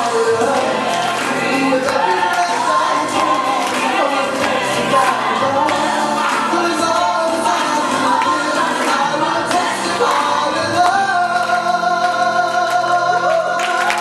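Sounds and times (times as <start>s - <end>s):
backing vocals: 0.0s - 14.0s
person singing pop worship song: 0.0s - 14.0s
recorded backing track: 0.0s - 14.0s.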